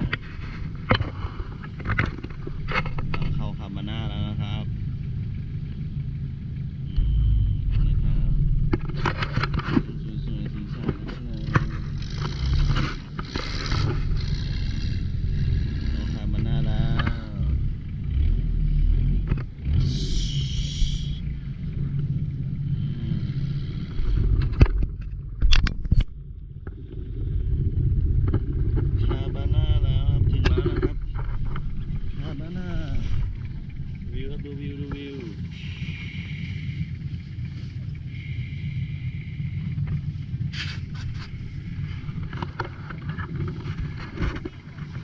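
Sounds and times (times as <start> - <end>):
boat engine rumbling: 0.0 - 45.0.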